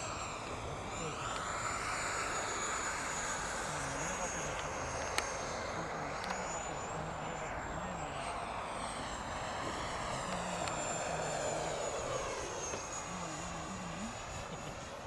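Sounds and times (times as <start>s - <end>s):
ducted fan jet whining: 0.0s - 15.0s.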